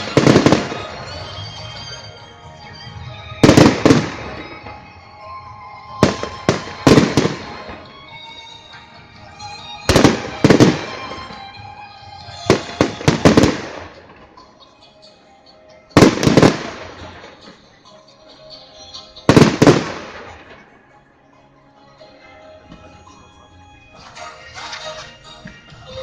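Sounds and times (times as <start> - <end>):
music with sustained tones: 0.0 - 26.0.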